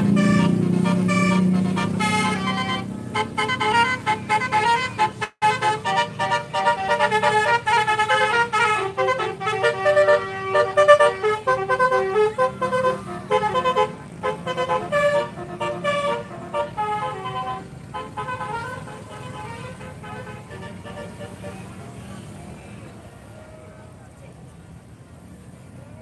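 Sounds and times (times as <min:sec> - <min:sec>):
multi-tone bus horn tune: 0:00.0 - 0:24.1.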